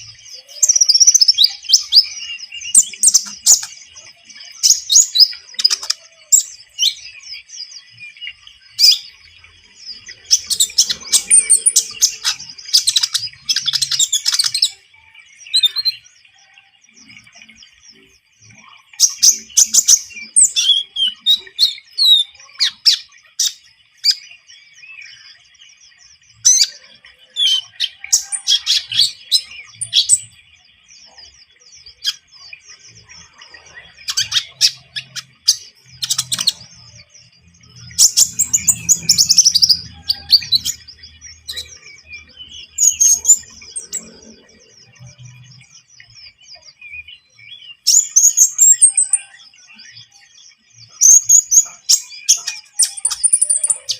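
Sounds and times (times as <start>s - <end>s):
bird chirping and trilling: 0.0s - 53.9s
faint high background tone: 0.0s - 53.9s.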